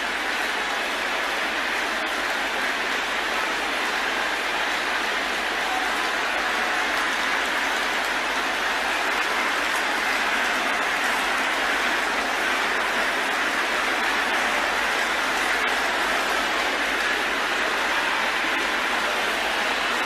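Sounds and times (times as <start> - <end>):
congregation praying aloud: 0.6 - 20.0.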